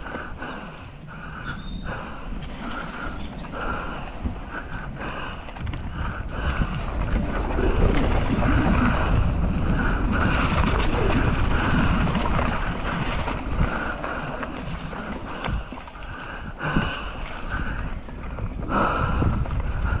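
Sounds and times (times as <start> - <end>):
low rumble from trail: 0.0 - 20.0
wind buffeting microphone: 0.0 - 20.0.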